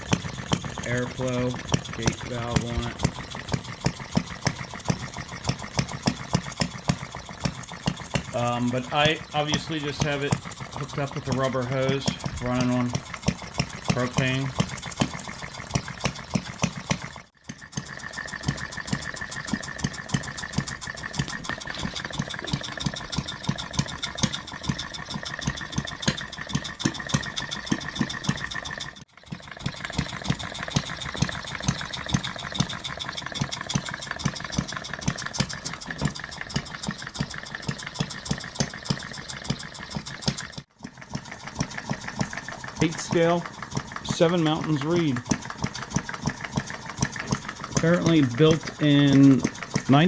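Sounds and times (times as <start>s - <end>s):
model two-stroke engine running: 0.0s - 50.0s.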